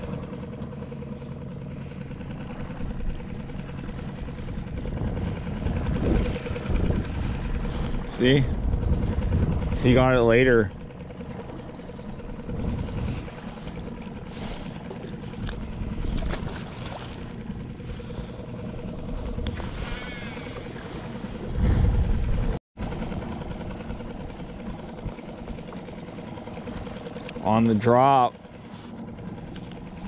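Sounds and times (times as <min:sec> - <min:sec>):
steady low hum: 0:00.0 - 0:30.0
wind buffeting microphone: 0:02.4 - 0:27.4.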